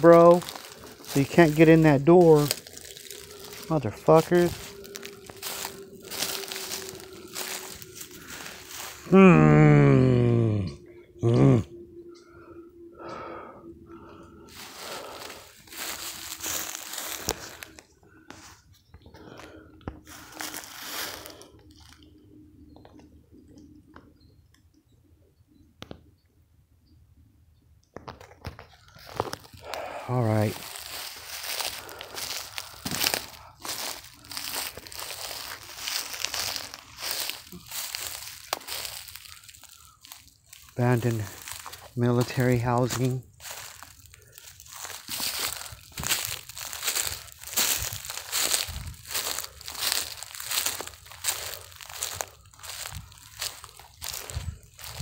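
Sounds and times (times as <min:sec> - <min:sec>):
footsteps crunching dry leaves: 0:00.0 - 0:10.5, 0:14.0 - 0:22.8, 0:28.5 - 0:55.0.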